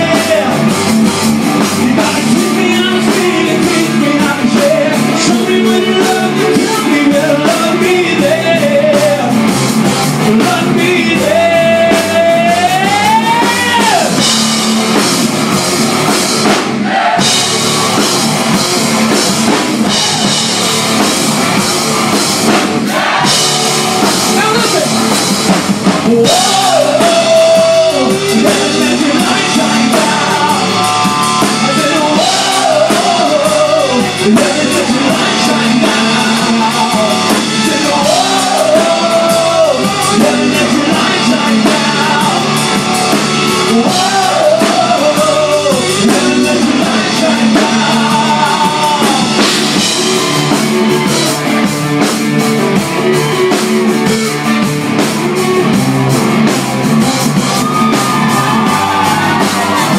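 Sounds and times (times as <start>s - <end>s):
bending lead guitar melody: 0.0s - 59.9s
drum kit: 0.0s - 59.9s
electric guitar: 0.0s - 59.9s.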